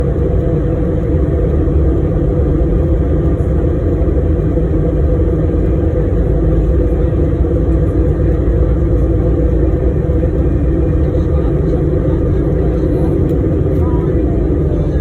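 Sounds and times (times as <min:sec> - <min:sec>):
airliner engines rumbling in cabin: 0:00.0 - 0:15.0.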